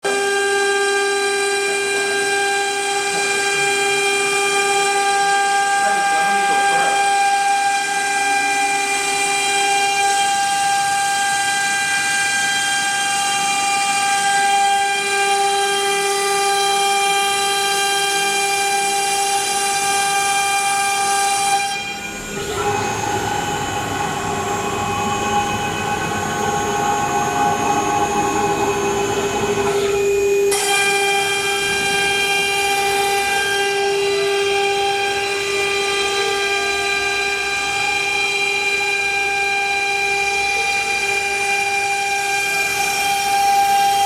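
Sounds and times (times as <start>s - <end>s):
router spindle high-pitched whine: 0.0s - 44.0s.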